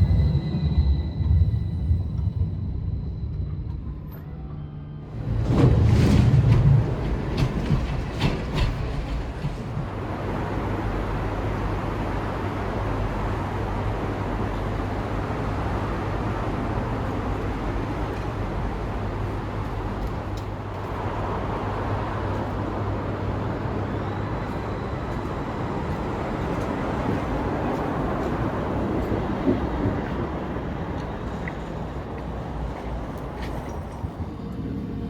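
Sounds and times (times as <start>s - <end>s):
tram rumbling: 0.0s - 35.0s.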